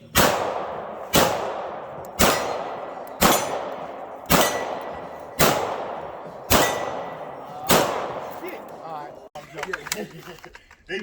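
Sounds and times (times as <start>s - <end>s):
gunshots with echo: 0.0s - 9.3s.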